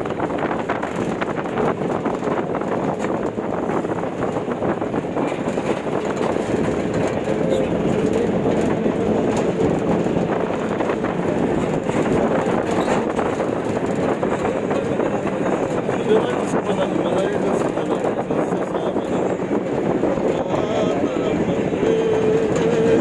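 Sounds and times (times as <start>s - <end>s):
moving vehicle rumble: 0.0s - 23.0s
light rattles and clicks: 0.1s - 23.0s.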